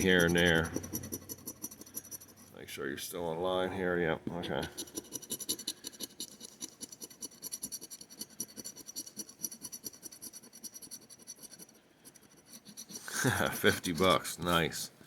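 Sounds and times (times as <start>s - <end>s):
scratching lottery ticket: 0.0s - 2.6s, 4.4s - 14.7s.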